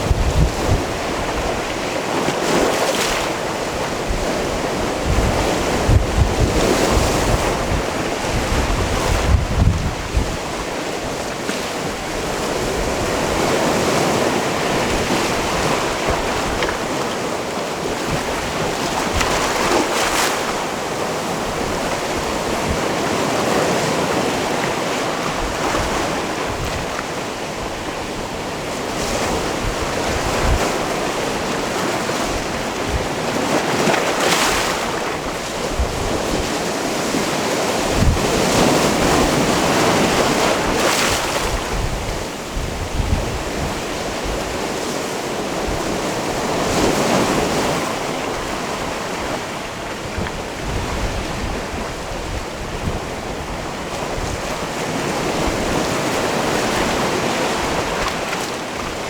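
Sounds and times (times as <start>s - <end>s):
waves breaking on rocks: 0.0s - 59.0s
wind buffeting microphone: 0.0s - 59.0s.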